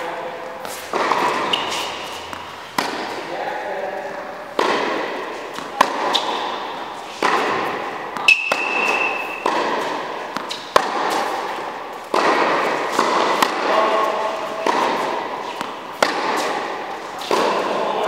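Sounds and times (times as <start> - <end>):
tennis balls bouncing on court: 0.0 - 3.3, 4.5 - 18.0
tennis balls struck by racket: 0.0 - 3.3, 4.5 - 18.0.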